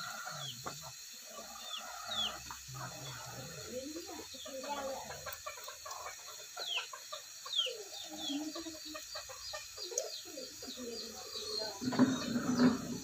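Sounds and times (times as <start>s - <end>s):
chickens clucking: 0.0s - 13.0s
high falling chirps: 0.0s - 13.0s.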